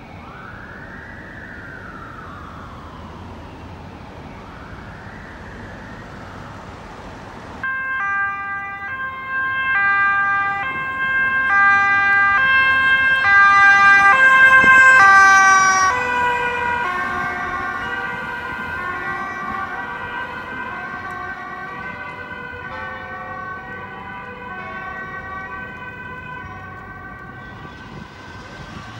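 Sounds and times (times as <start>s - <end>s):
traffic noise: 0.0s - 28.9s
two-tone police siren: 0.0s - 28.9s.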